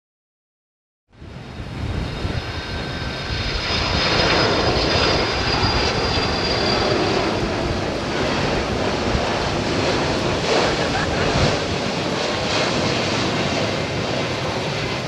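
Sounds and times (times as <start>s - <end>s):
airliner jet engines roaring: 1.1s - 15.0s.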